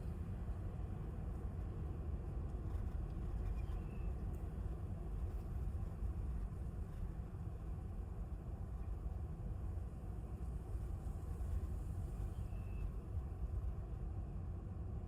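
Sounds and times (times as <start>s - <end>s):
low rumble inside car: 0.0s - 15.0s.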